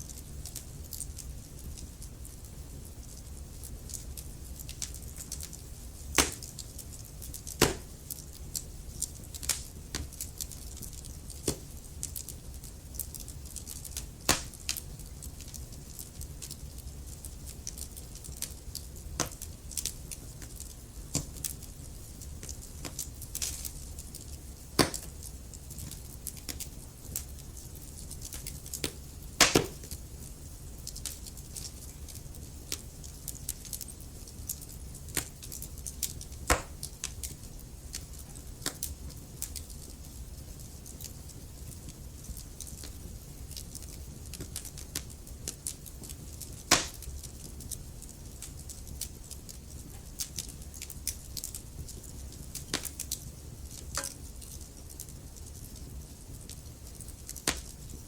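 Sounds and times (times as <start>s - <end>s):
flame rumble and hiss: 0.0s - 58.0s
logs crackling and popping: 0.0s - 58.0s.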